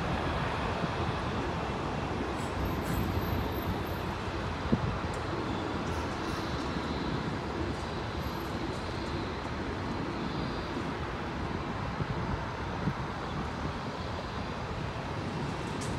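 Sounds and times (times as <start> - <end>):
airport background noise: 0.0 - 15.9.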